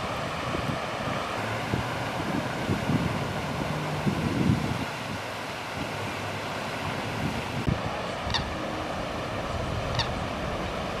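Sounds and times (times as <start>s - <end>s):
fountain spray falling on water: 0.0s - 11.0s.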